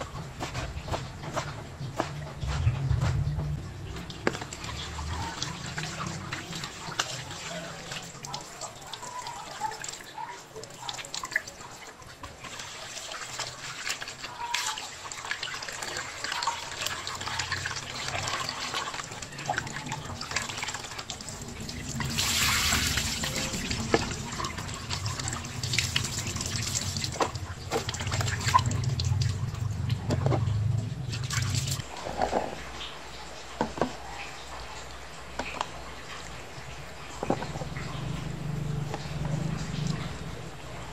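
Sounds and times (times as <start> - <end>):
water splashing: 0.0 - 40.9.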